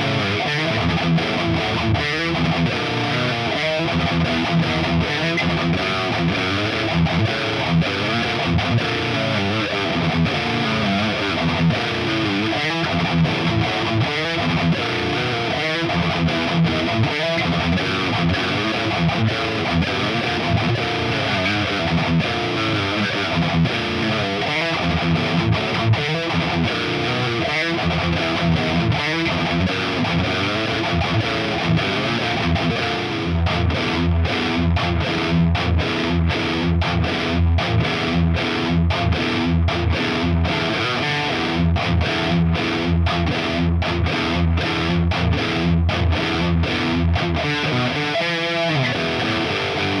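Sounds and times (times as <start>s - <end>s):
distorted electric guitar: 0.0s - 50.0s.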